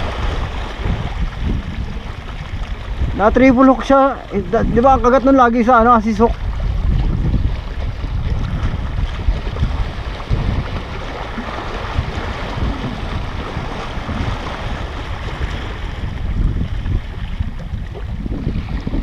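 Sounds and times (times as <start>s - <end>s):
small waves washing: 0.0s - 19.0s
wind buffeting the microphone: 0.0s - 19.0s.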